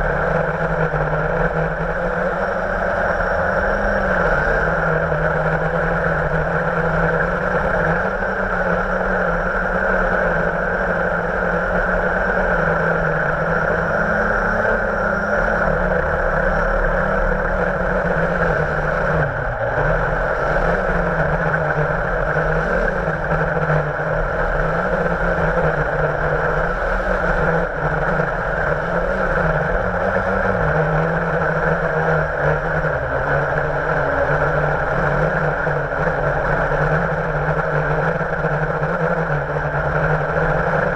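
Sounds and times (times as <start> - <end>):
quadcopter propellers buzzing: 0.0 - 40.9.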